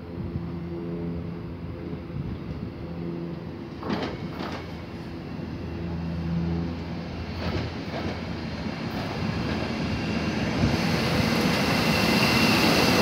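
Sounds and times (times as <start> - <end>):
train low hum: 0.0 - 13.0
train wheels rumbling on rail: 0.0 - 13.0.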